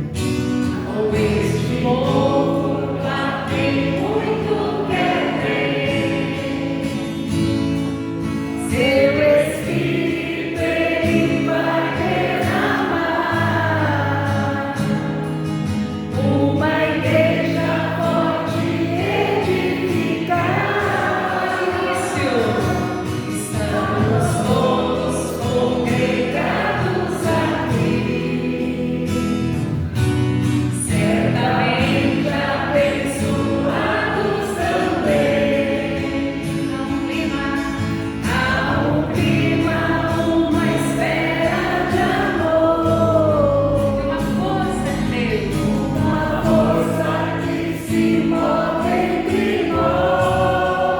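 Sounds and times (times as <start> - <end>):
voices singing a praise song: 0.0 - 50.9.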